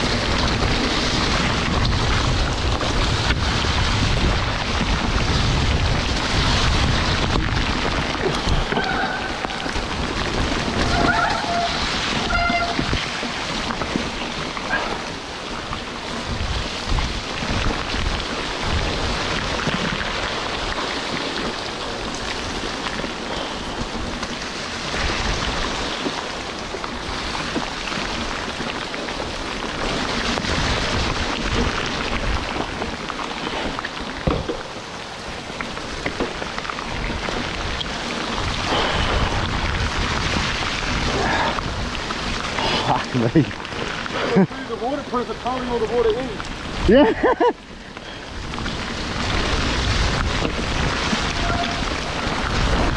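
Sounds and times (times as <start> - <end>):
heavy rain downpour: 0.0 - 52.9
mountain bike rumbling on rough trail: 0.0 - 52.9.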